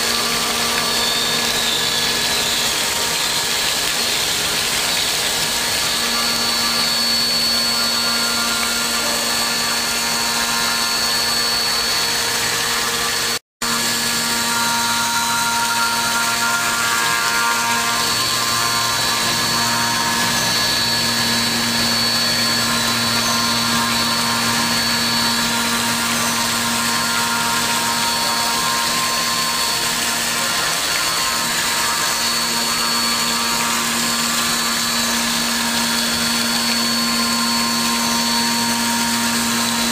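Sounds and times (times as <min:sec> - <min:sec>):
milling machine spindle whining: 0:00.0 - 0:39.9.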